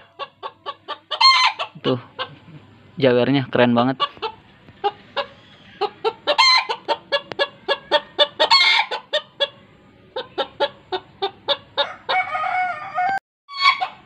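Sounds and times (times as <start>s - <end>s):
chicken squawks: 0.0s - 2.6s, 3.9s - 14.0s
chickens clucking: 0.0s - 14.0s.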